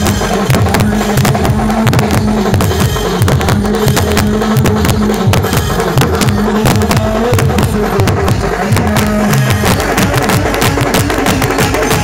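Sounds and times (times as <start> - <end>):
loud dance music: 0.0 - 12.0.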